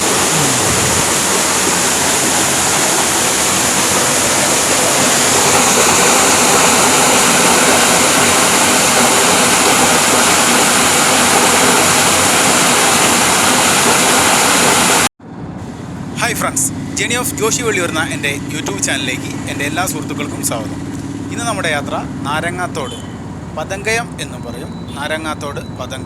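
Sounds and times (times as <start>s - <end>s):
waterfall rushing: 0.0s - 24.6s.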